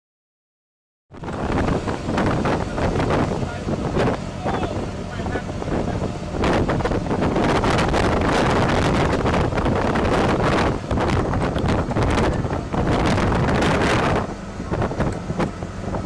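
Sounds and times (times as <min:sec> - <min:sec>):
wind buffeting microphone: 0:01.1 - 0:16.0.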